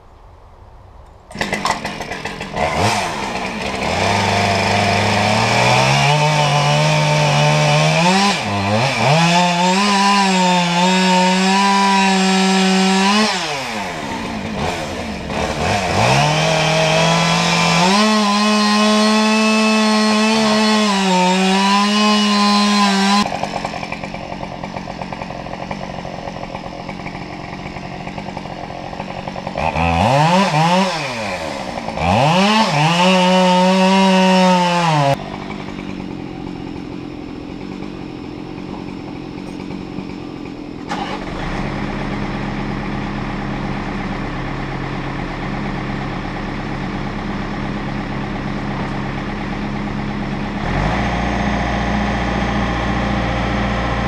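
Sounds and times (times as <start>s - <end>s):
chainsaw cutting tree trunk: 1.3s - 54.0s.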